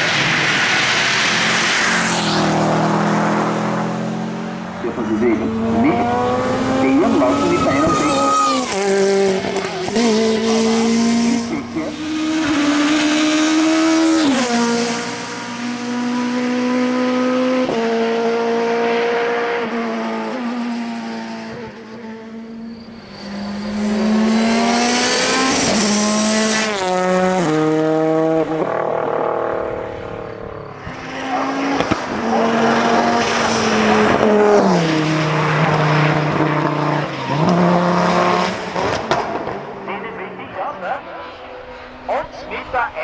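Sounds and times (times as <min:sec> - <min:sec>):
race car engines at full throttle: 0:00.0 - 0:43.0.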